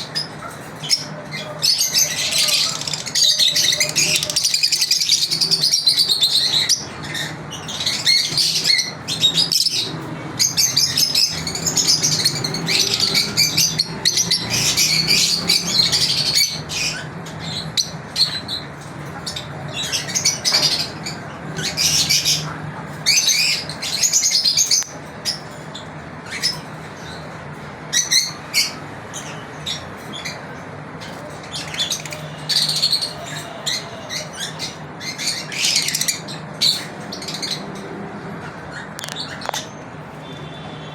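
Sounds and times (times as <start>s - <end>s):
lovebirds chirping: 0.0s - 40.8s.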